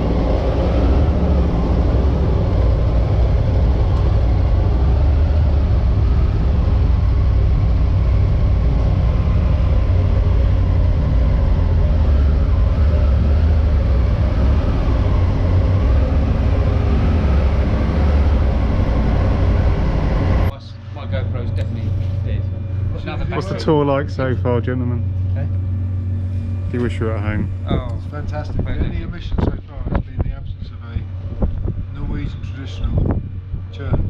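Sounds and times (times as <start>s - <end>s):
wind rush: 0.0s - 20.6s, 25.0s - 34.0s.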